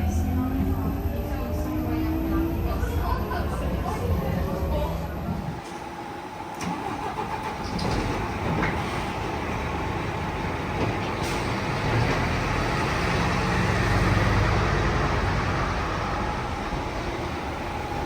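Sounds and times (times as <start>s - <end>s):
metro train rumble and hum: 0.0s - 18.0s.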